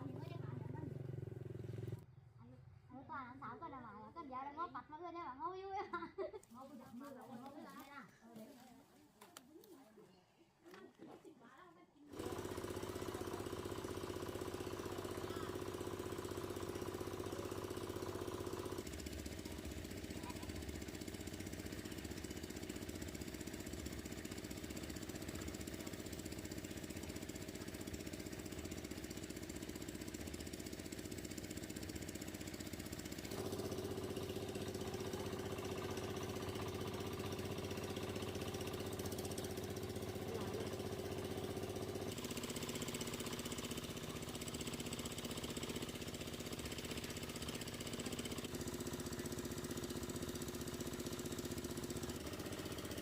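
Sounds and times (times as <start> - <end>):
small engine running: 0.0 - 9.8, 12.1 - 53.0.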